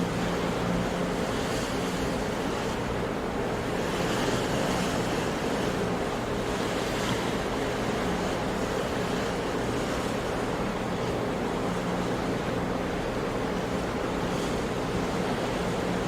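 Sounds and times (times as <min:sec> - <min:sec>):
sea waves and surf: 0:00.0 - 0:16.0.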